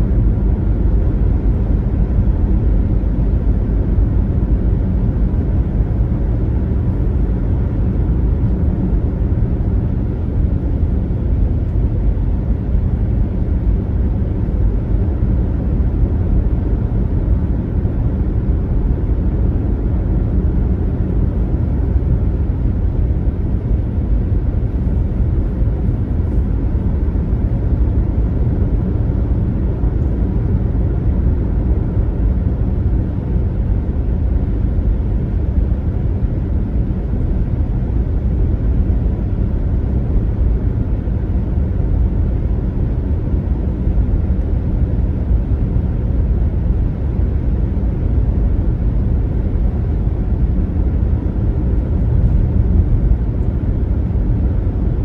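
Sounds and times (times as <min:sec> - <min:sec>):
car driving rumble: 0:00.0 - 0:55.0.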